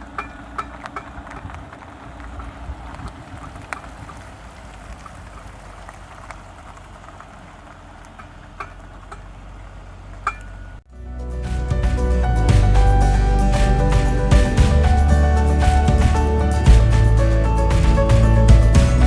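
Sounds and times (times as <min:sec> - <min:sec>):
vehicle running hum: 0:00.0 - 0:19.0.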